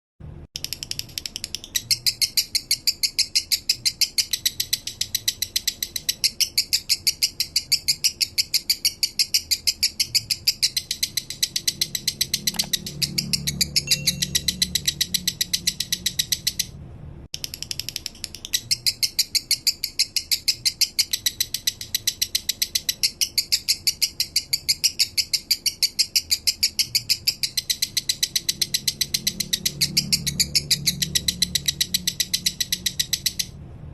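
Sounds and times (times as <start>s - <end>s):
lovebird chirping: 0.6s - 16.8s, 17.4s - 33.6s.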